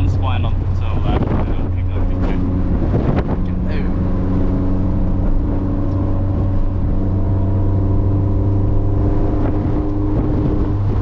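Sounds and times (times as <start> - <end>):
car engine droning: 0.0 - 11.0
road noise: 0.0 - 11.0.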